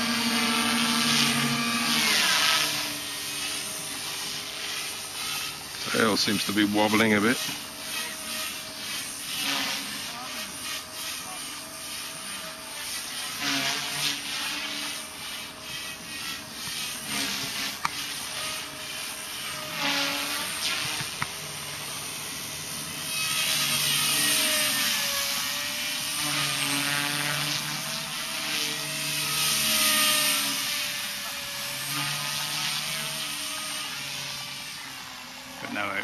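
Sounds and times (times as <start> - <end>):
rc helicopter motor and rotor whine: 0.0 - 36.0.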